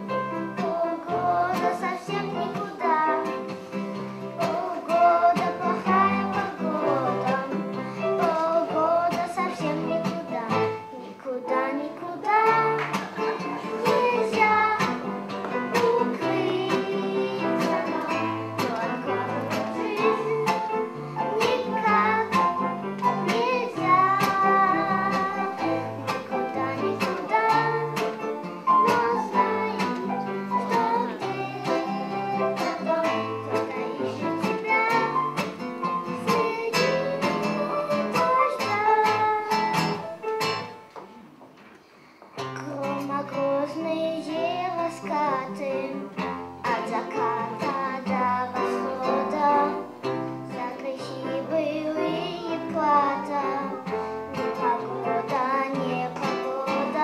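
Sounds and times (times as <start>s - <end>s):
girl singing into a microphone: 0.0s - 40.6s, 42.4s - 57.0s.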